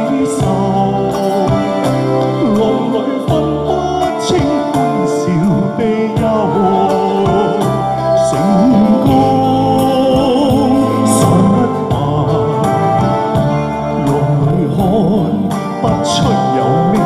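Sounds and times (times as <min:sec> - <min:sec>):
instrumental backing music: 0:00.0 - 0:17.0
man singing into microphone: 0:00.0 - 0:17.0.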